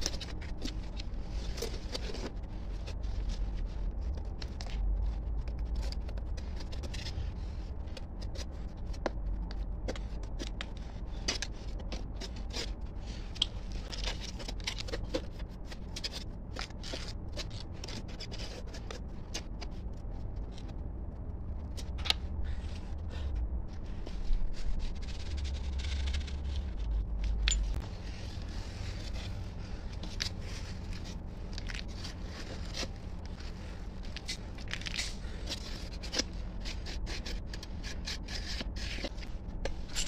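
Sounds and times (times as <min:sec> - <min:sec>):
low hum: 0:00.0 - 0:40.0.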